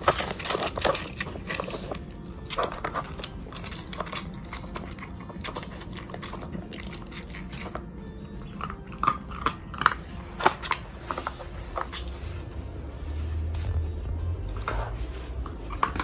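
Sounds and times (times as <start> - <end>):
puppy crunching dry kibble: 0.0 - 16.0.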